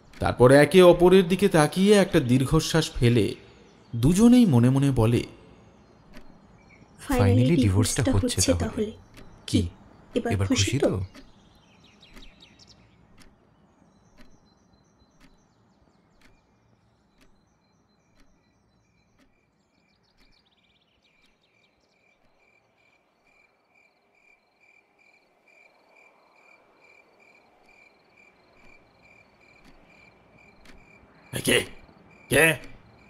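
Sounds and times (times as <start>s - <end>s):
soft clock ticking: 0.0s - 23.4s, 27.3s - 33.0s
crickets chirping: 0.0s - 33.0s.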